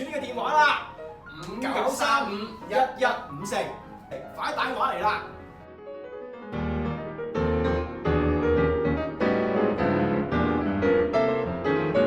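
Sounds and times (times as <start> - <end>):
piano chords and notes: 0.0 - 12.0.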